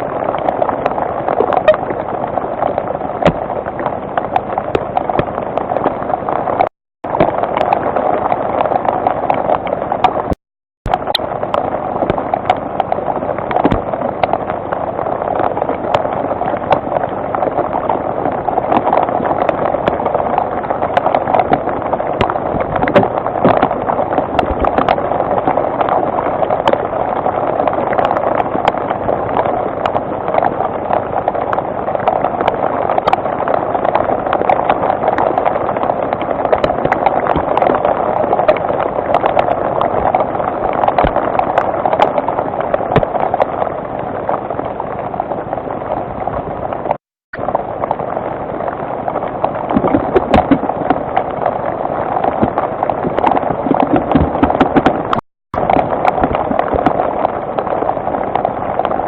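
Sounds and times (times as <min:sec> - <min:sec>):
rain falling: 0:00.0 - 0:59.0
raindrops ticking close: 0:00.0 - 0:59.0.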